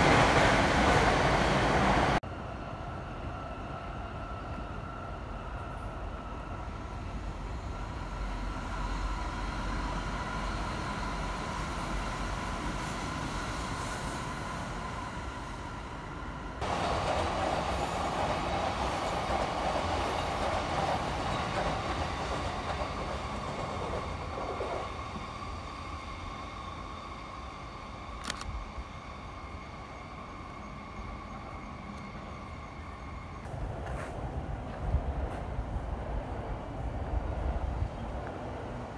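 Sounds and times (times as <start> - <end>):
train wheels rumbling on rail: 0.0 - 2.2, 2.8 - 38.9.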